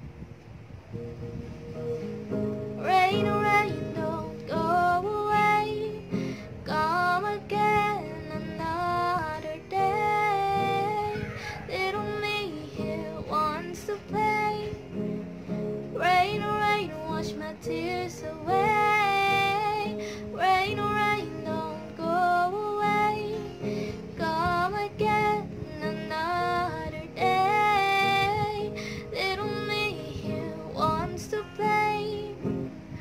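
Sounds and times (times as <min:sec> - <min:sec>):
acoustic guitar strumming: 0:00.9 - 0:33.0
woman singing: 0:02.7 - 0:33.0.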